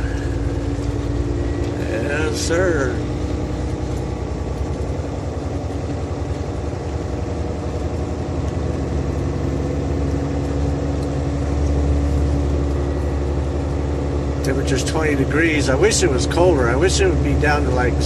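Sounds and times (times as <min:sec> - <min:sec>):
road noise: 0:00.0 - 0:18.0
truck diesel engine humming: 0:00.0 - 0:18.0.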